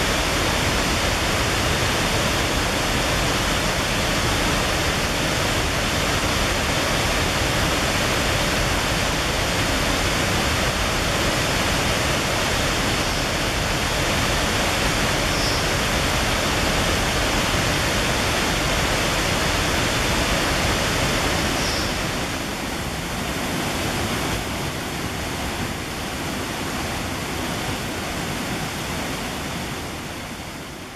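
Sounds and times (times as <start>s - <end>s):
rushing river water: 0.0s - 30.9s.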